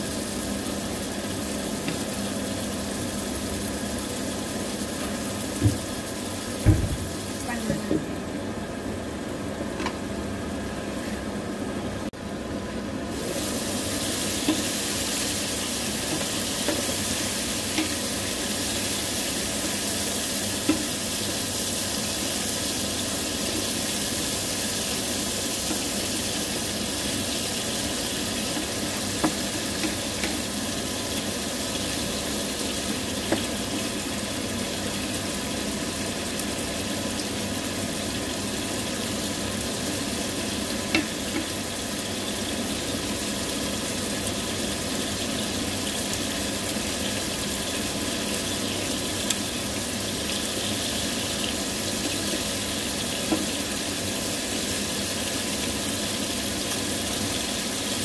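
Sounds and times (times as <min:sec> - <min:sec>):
chicken sizzling in frying pan: 0:00.0 - 0:11.6, 0:12.2 - 0:58.0.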